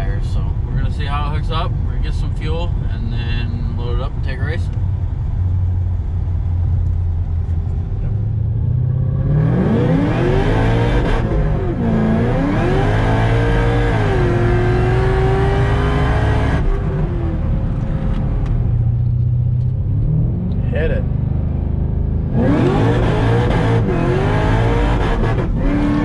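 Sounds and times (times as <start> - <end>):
car engine accelerating: 3.6 - 26.0.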